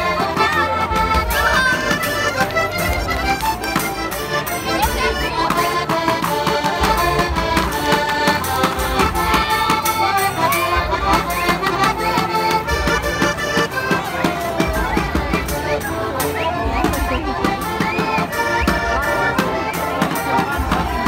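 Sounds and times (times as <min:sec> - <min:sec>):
accordions playing folk dance tune: 0:00.0 - 0:21.0
drum steady beat: 0:00.0 - 0:21.0.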